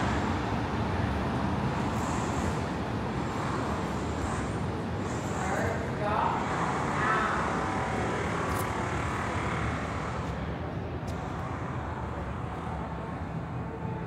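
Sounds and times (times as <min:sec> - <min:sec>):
low rumble of traffic: 0:00.0 - 0:14.0
vehicle passing close: 0:00.0 - 0:14.0.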